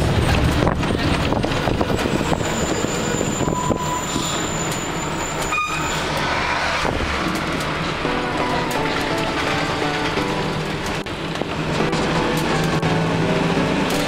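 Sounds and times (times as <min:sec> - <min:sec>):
vehicle rumble and wind rush: 0:00.0 - 0:14.0.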